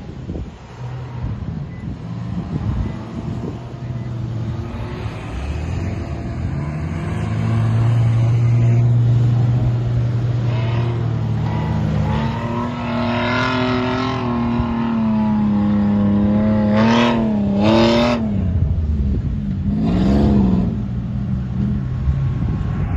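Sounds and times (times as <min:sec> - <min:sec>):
off-road vehicle engine revving: 0:01.6 - 0:22.1.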